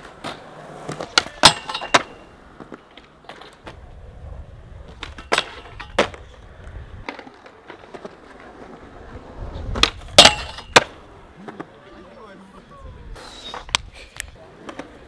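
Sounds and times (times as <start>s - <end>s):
skateboard clacks: 0.0s - 4.0s, 4.8s - 12.2s, 13.2s - 15.0s
skateboard wheels rolling on concrete: 0.0s - 15.0s.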